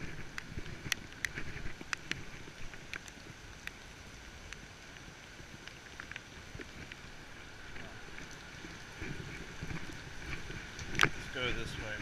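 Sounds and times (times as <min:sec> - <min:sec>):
rain hissing on wet pavement: 0:00.0 - 0:12.0.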